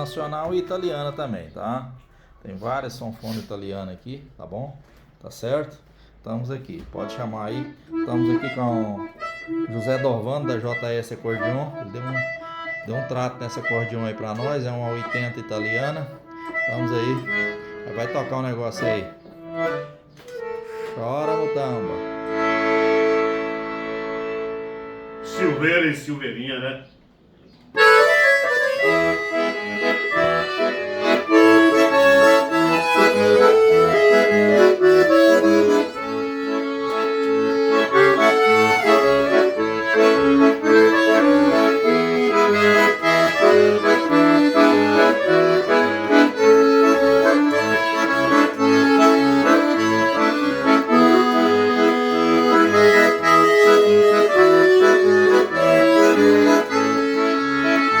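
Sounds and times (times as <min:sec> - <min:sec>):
accordion playing lively tune: 0:00.0 - 0:03.6, 0:05.8 - 0:58.0.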